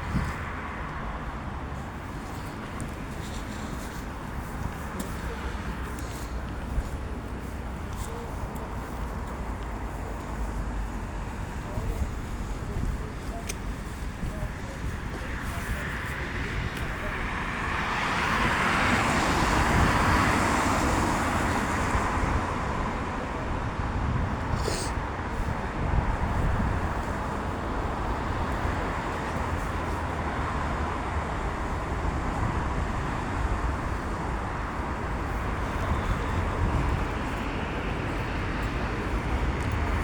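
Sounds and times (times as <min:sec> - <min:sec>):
road traffic: 0:00.0 - 0:40.0.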